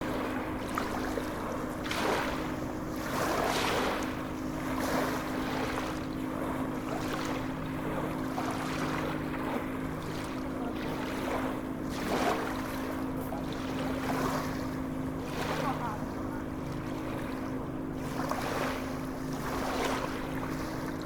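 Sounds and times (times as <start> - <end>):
sea waves washing in: 0.0 - 21.0
steady low hum: 0.0 - 21.0.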